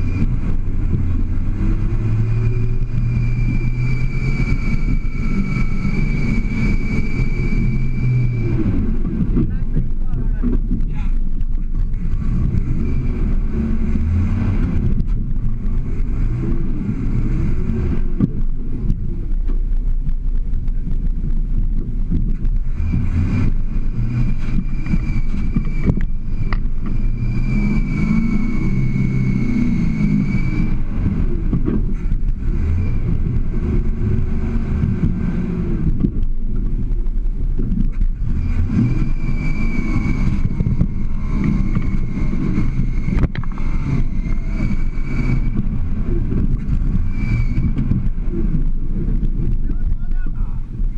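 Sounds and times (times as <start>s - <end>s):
high steady whine: 0.0s - 50.9s
truck engine revving: 0.0s - 50.9s.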